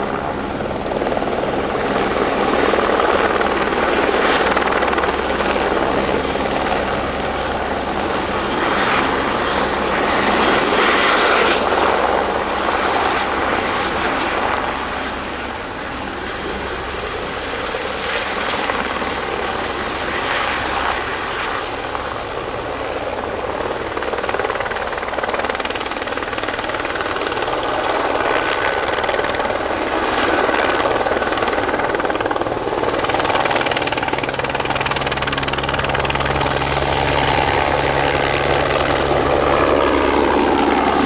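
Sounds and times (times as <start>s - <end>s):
helicopter hovering: 0.0s - 41.0s.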